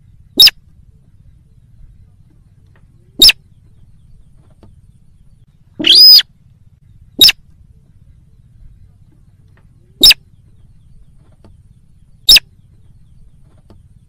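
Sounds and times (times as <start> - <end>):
rail bird calls: 0.0 - 14.0.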